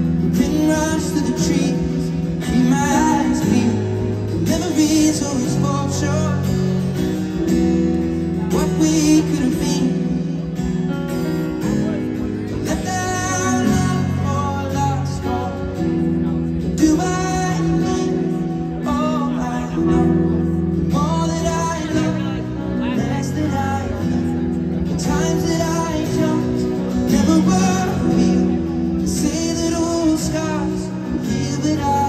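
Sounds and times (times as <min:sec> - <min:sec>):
man singing: 0:00.0 - 0:32.0
strummed acoustic guitar: 0:00.0 - 0:32.0.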